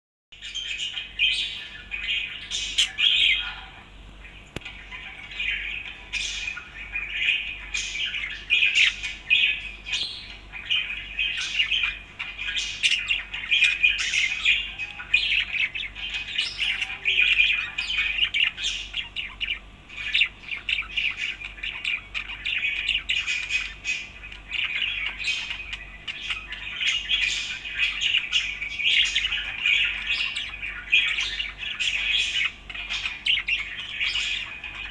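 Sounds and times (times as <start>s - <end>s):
budgerigar chirping: 0.4s - 34.9s.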